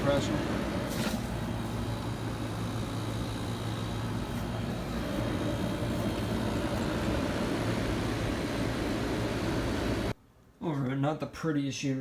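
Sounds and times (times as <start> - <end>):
condenser fan rushing: 0.0 - 10.2
compressor hum: 0.0 - 10.5.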